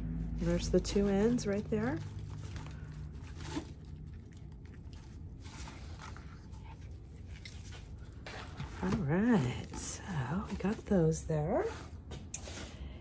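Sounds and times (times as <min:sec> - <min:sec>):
low hum: 0:00.0 - 0:11.1.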